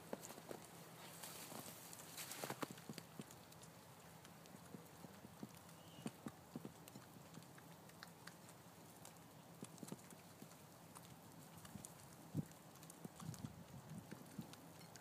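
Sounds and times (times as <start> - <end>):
groundhog chewing grass: 0.0 - 15.0.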